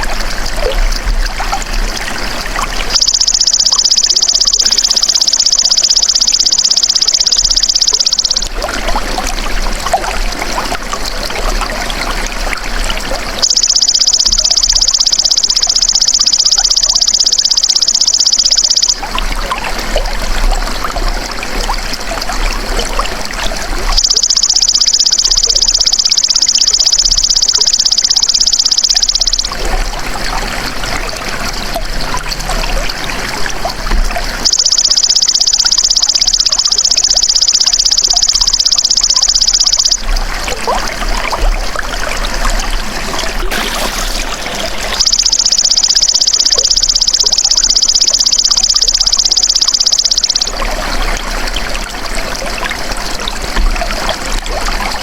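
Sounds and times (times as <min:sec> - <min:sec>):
running water trickling: 0:00.0 - 0:55.0.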